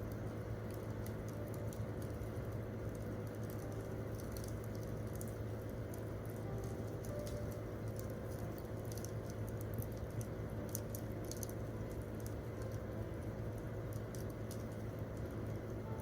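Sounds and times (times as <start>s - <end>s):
campfire crackling: 0.0s - 15.8s.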